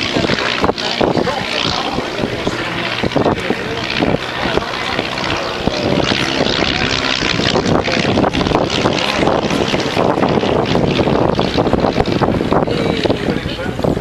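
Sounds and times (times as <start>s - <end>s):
propeller plane engine: 0.0s - 14.0s.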